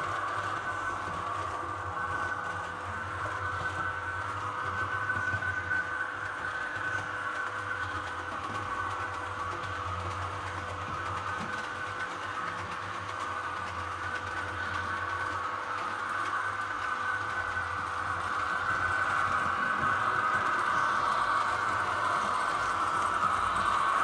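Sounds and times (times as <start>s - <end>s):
model train motor whir: 0.0s - 24.0s.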